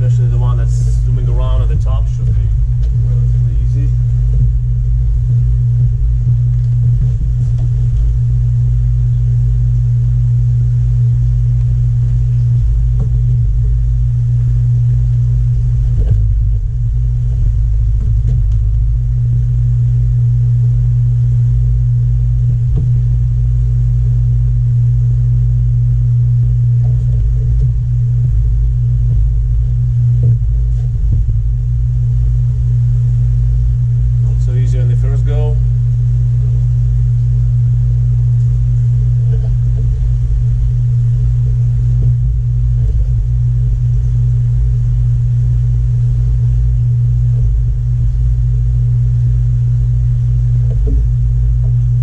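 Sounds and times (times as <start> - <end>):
aquarium pumps humming: 0.0 - 52.0.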